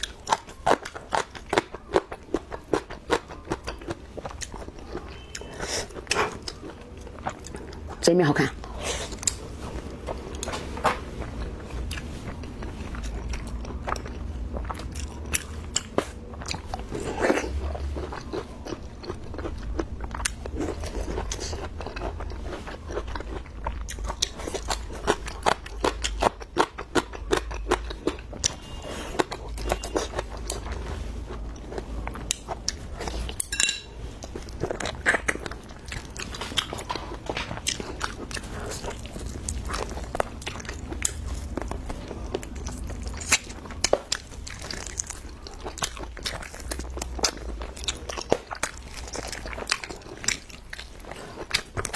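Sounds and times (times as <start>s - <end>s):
wet chewing: 0.0s - 51.9s.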